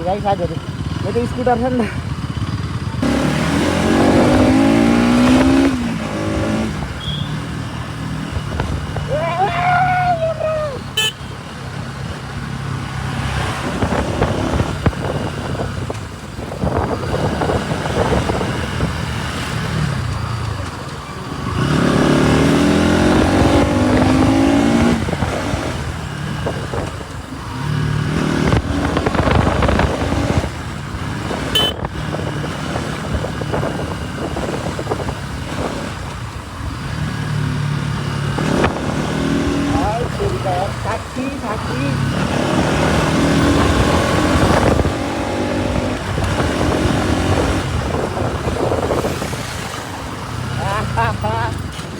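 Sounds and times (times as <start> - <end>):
motorcycle engine running: 0.0 - 51.9
wind noise on microphone: 2.8 - 10.7, 13.0 - 51.9.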